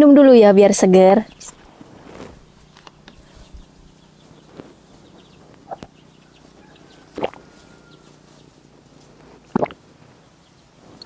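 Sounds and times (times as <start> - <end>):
faint chickens clucking: 1.3 - 11.0.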